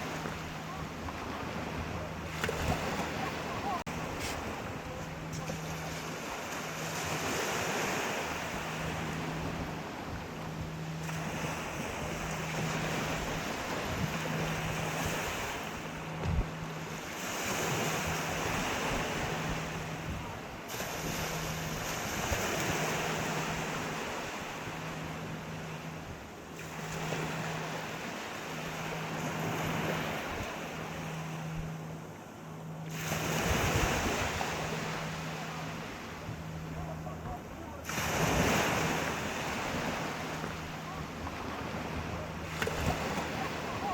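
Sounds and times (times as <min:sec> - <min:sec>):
pulsing low hum: 0:00.0 - 0:43.9
sea waves breaking: 0:00.0 - 0:43.9.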